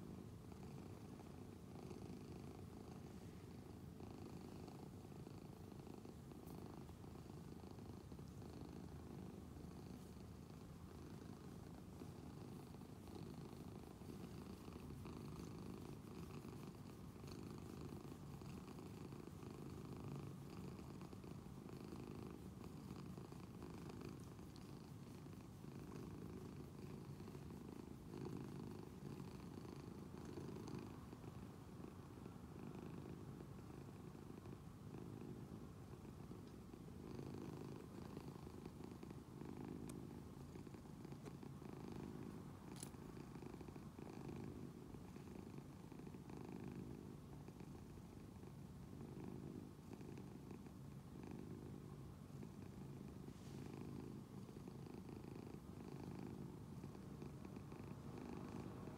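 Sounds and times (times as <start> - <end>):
cat purring: 0.0 - 58.9.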